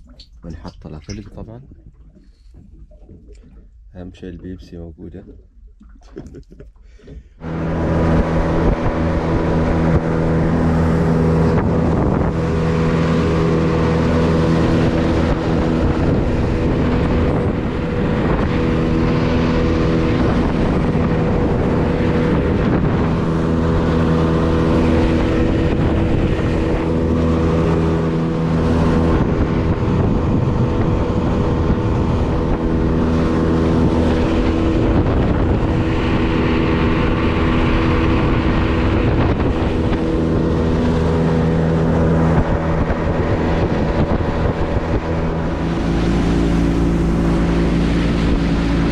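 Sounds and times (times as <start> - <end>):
boat motor running: 0.0 - 48.9
water rushing past hull: 0.0 - 48.9
wind buffeting microphone: 0.0 - 48.9.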